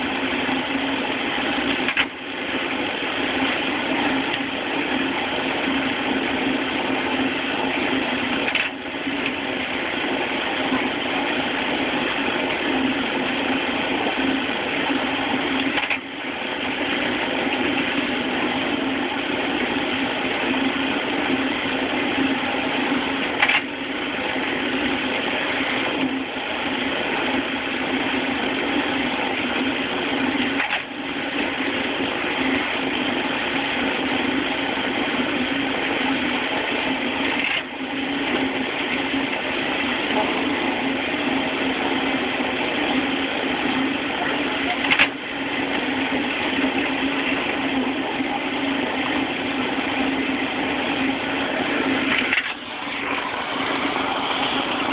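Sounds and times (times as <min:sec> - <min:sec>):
log splitter mechanical drone: 0:00.0 - 0:54.9.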